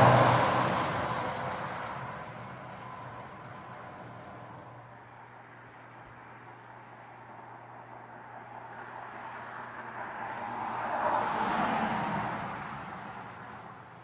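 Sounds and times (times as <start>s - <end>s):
heavy truck passing: 0.0s - 6.4s, 9.0s - 14.0s.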